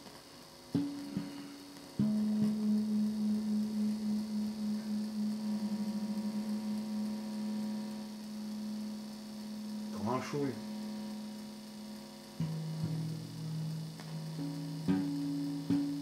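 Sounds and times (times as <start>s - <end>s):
electric bass note ringing: 0.8s - 16.0s.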